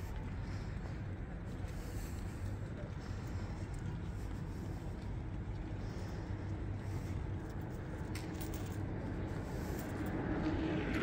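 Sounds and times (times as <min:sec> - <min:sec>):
low urban rumble: 0:00.0 - 0:11.0.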